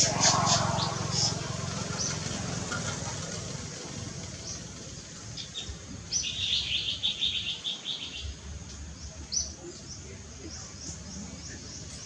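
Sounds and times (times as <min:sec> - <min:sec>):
birds chirping: 0:00.0 - 0:03.5, 0:04.2 - 0:12.0.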